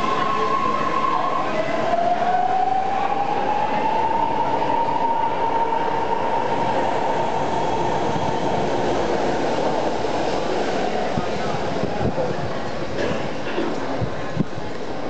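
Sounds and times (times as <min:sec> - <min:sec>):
high train whine: 0:00.0 - 0:15.0
train wheels rumbling on rail: 0:00.0 - 0:15.0.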